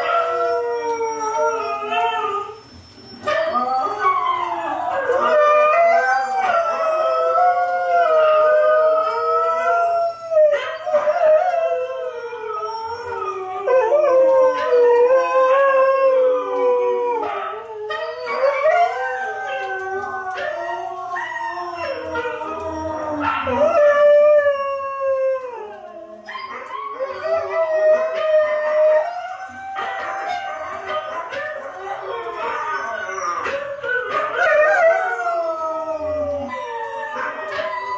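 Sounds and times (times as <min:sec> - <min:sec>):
dog howling: 0:00.0 - 0:37.9
recorded dog howls playing: 0:03.2 - 0:37.9.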